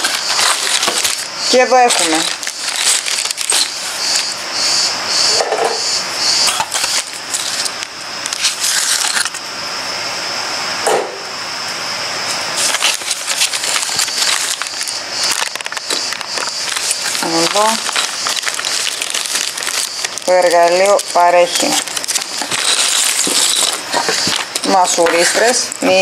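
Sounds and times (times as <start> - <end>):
plastic packaging crinkling: 0.0 - 4.6, 5.2 - 9.5, 12.4 - 26.0.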